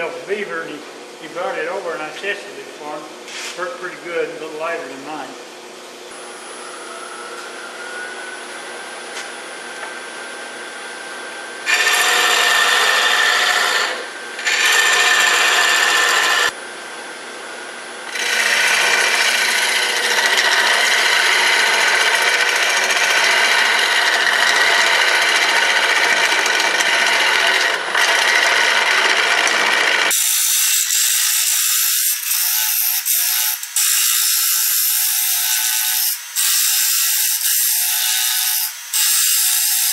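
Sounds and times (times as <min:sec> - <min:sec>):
lathe motor hum: 0:05.6 - 0:39.9
cutter hollowing wood on lathe: 0:06.1 - 0:16.6, 0:18.0 - 0:39.9.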